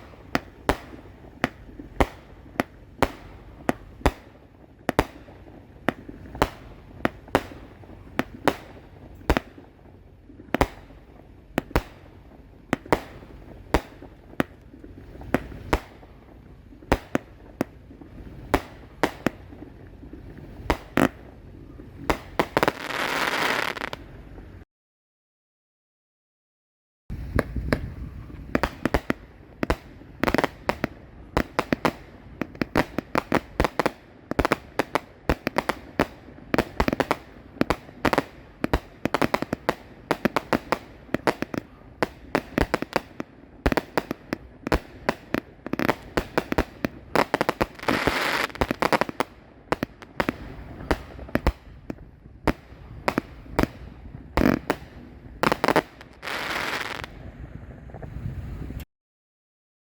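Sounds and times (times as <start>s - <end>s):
firework crackle: 0.0s - 24.6s, 27.1s - 58.8s
fireworks sharp bangs: 0.0s - 24.6s, 27.1s - 58.1s.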